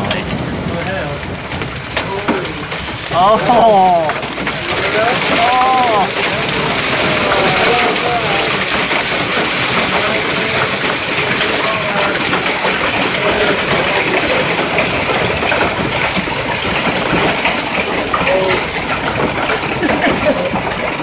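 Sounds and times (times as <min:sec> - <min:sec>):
heavy rain and hail pelting: 0:00.0 - 0:21.0.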